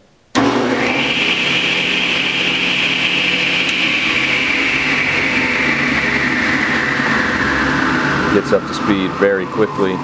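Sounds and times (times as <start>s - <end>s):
electric motor whine: 0.4s - 10.0s
low motor hum: 0.4s - 10.0s.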